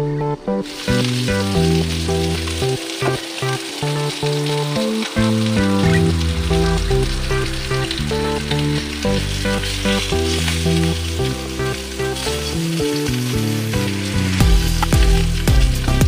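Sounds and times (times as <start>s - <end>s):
background music: 0.0s - 16.0s
food sizzling in a pan: 0.6s - 16.0s.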